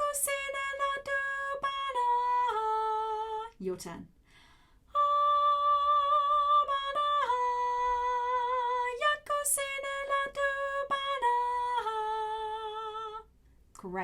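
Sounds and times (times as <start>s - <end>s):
woman singing: 0.0s - 3.8s, 4.9s - 13.3s.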